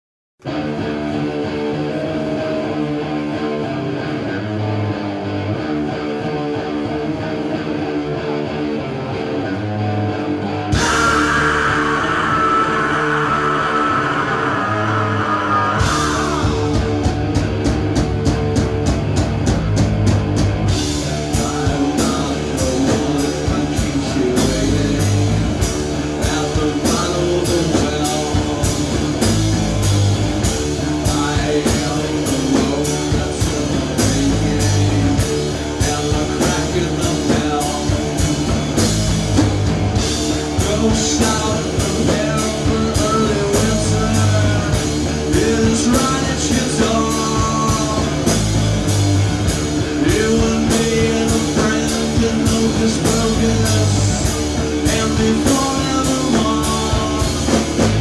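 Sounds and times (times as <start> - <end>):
live rock band playing: 0.4 - 58.0.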